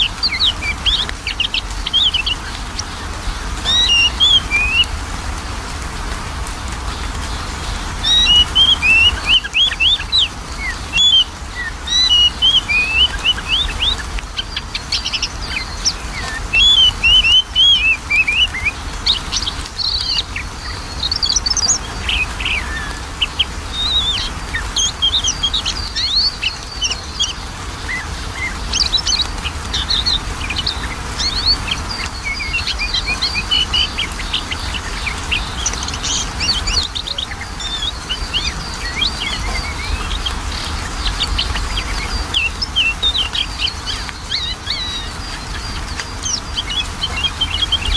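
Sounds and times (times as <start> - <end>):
bird singing whistles and chirps: 3.6 - 4.9, 8.0 - 47.9.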